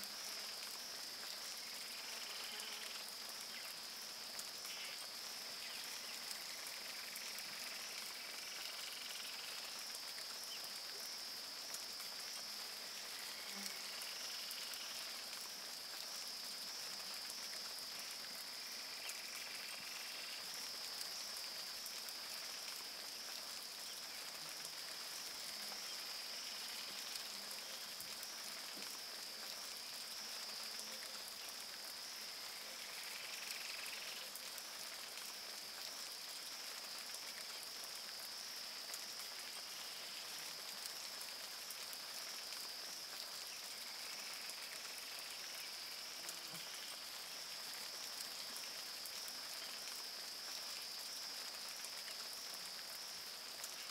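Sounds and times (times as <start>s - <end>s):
faint rain hiss: 0.0s - 53.9s.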